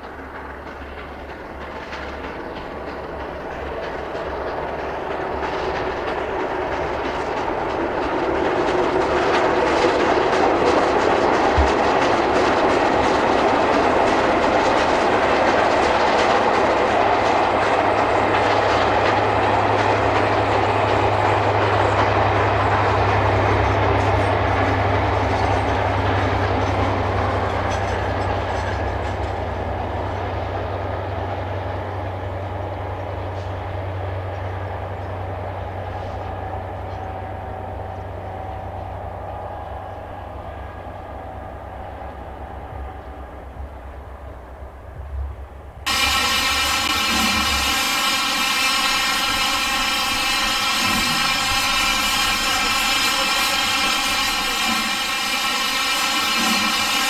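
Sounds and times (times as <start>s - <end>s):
steam locomotive exhaust rush: 0.0s - 57.0s
train wheels clickety-clack: 0.0s - 57.0s.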